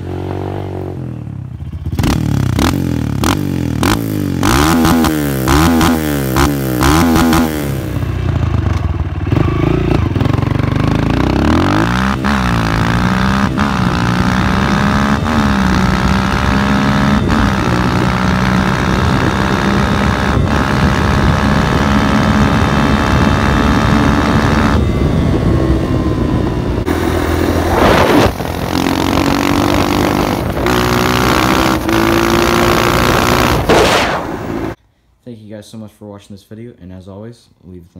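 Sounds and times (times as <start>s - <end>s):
dirt bike engine accelerating: 0.0s - 34.8s.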